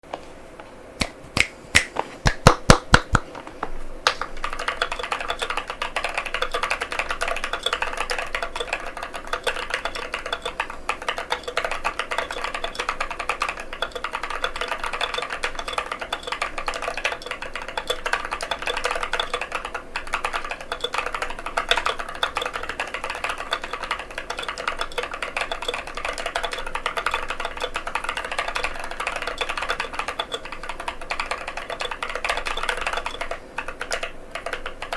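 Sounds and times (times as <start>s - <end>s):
fast typing on keyboard: 2.3s - 3.2s, 4.1s - 34.9s.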